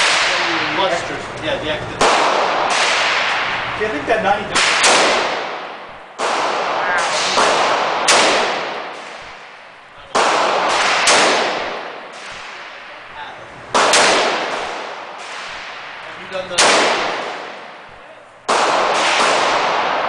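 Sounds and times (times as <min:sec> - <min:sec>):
gunshots echoing indoors: 0:00.0 - 0:01.0, 0:02.0 - 0:20.0.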